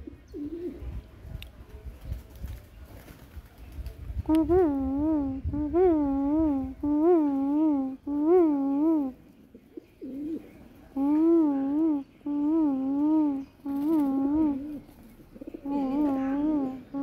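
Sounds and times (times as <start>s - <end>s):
pigeons cooing: 0.0s - 1.1s, 4.1s - 17.0s.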